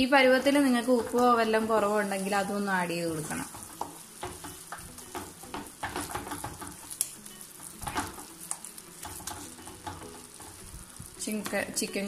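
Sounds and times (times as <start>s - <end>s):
food sizzling in a frying pan: 0.0s - 12.0s
spatula scraping a pan: 0.2s - 11.7s.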